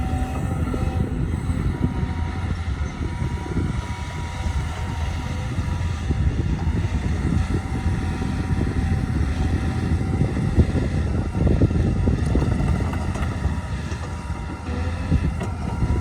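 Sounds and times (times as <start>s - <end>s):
heavy machinery engine rumble: 0.0s - 16.0s.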